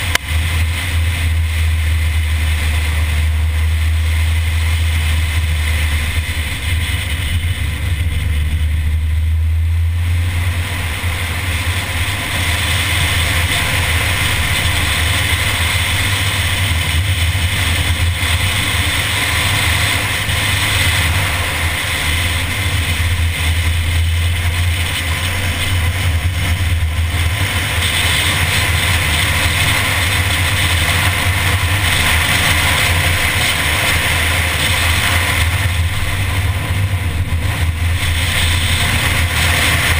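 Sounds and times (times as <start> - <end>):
car engine and road drone: 0.0 - 39.9
wind rushing noise: 0.0 - 39.9.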